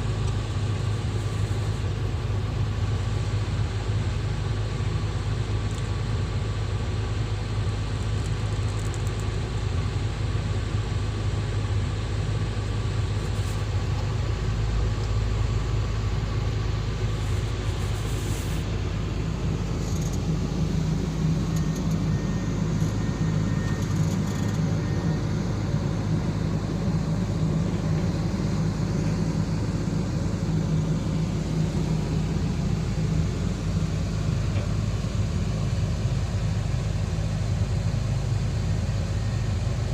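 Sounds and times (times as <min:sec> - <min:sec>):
excavator diesel engine and hydraulics: 0:00.0 - 0:39.9.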